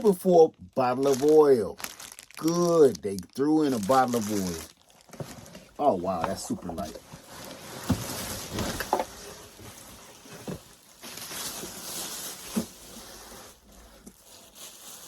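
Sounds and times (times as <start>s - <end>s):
packaging rustling and scraping: 1.0s - 15.0s.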